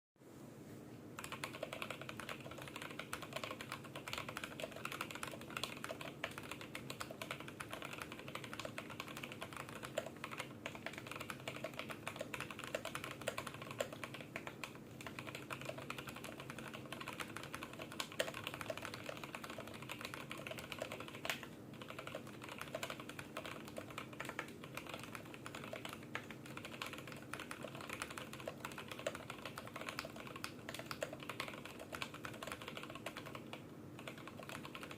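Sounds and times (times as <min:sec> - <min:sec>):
faint steady background hum: 0:00.2 - 0:34.9
fast mechanical keyboard typing: 0:01.2 - 0:34.9.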